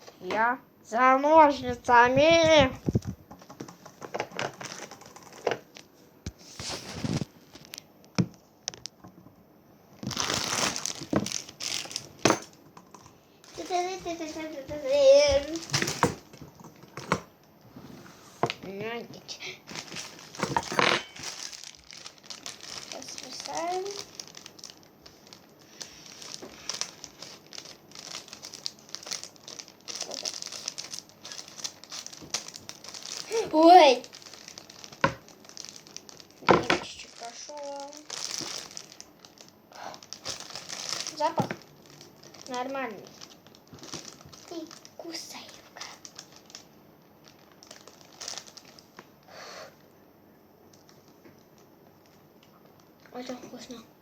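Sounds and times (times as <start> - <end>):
crinkling rustling handling: 0.0 - 12.7, 13.3 - 49.3, 50.7 - 53.9.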